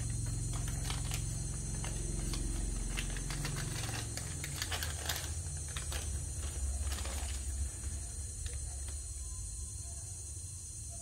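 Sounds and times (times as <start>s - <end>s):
plastic bag crinkling: 0.0s - 9.2s
low motor-like drone: 0.0s - 9.7s.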